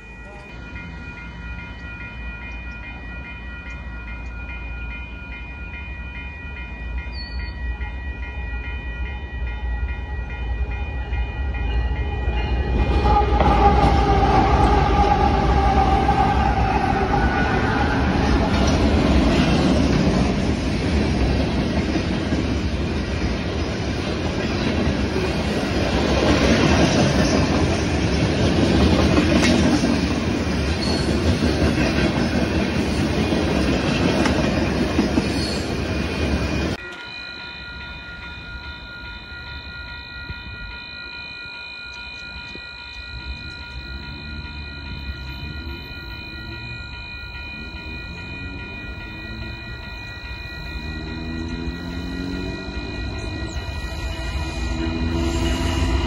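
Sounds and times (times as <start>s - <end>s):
diesel locomotives rumbling: 0.0s - 41.3s, 42.1s - 56.0s
level-crossing warning bell: 0.0s - 56.0s.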